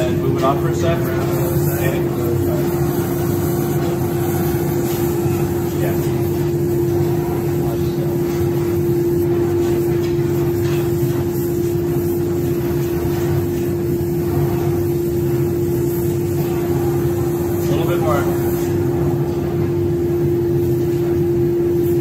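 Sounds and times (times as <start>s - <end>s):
loud shop hum: 0.0s - 22.0s
torch flame burning: 0.0s - 22.0s.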